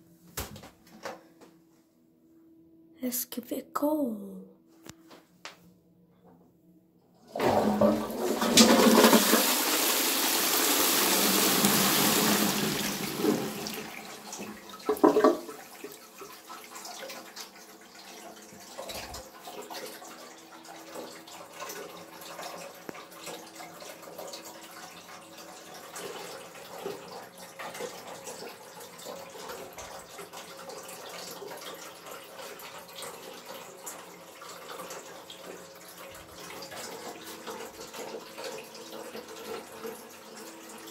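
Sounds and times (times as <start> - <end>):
toilet cistern flushing: 7.2 - 40.9.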